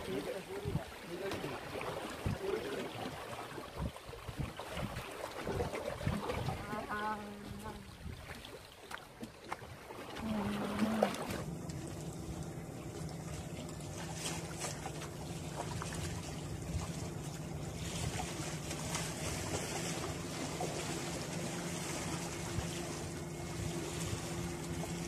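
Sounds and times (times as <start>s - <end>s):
boat engine droning: 0.0s - 25.0s
wind: 0.0s - 25.0s.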